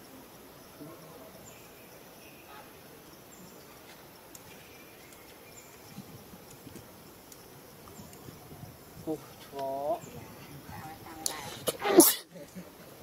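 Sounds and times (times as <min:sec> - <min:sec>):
steady forest hiss: 0:00.0 - 0:13.0.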